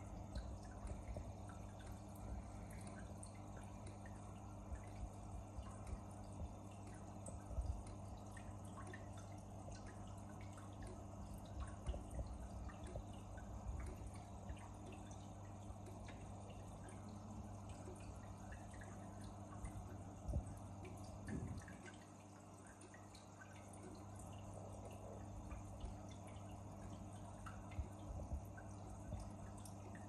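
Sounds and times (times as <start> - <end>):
pump hum: 0.0 - 30.0
water dripping and trickling: 0.0 - 30.0.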